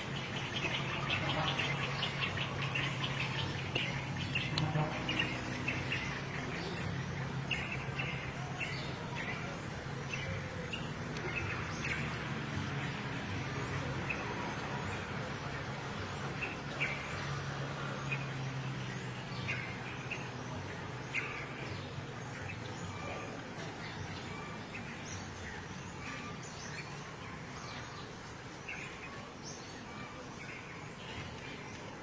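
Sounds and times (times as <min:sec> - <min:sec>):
birds chirping: 0:00.0 - 0:32.0
outdoor background noise: 0:00.0 - 0:32.0.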